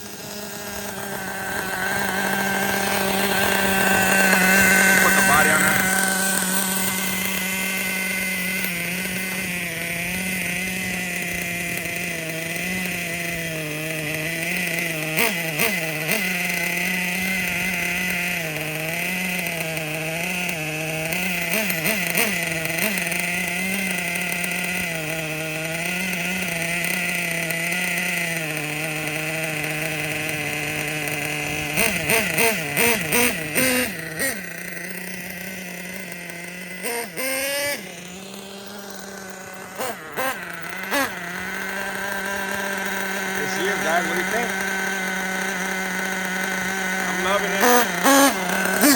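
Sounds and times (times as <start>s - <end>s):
model engine idling: 0.0s - 48.9s
model engine revving: 0.0s - 48.9s.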